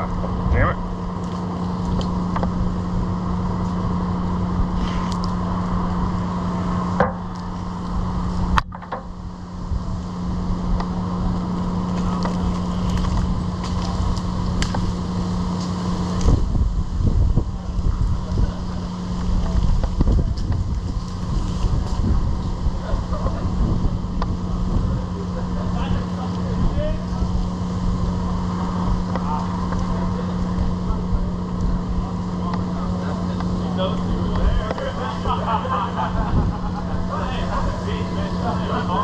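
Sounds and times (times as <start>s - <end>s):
engine running steadily: 0.0s - 39.0s
low rumbling noise: 0.0s - 39.0s.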